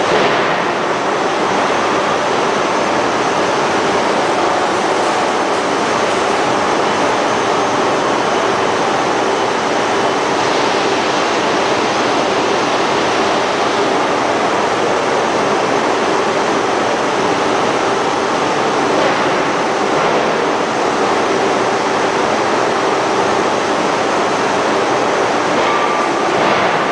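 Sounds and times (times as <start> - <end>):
rolling mill rushing noise: 0.0 - 26.9.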